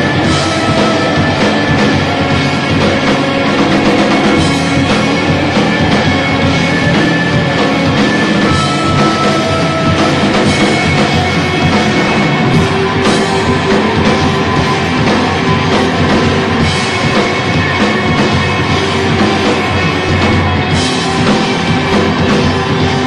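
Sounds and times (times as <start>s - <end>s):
drum kit: 0.0s - 23.0s
electric guitar: 0.0s - 23.0s
rock band playing loud: 0.0s - 23.0s.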